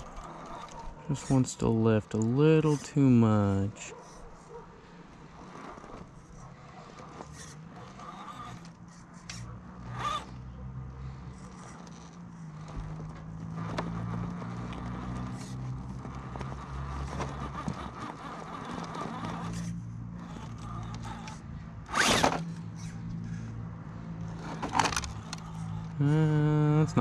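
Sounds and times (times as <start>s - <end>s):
electric motor whining: 0.0s - 27.0s.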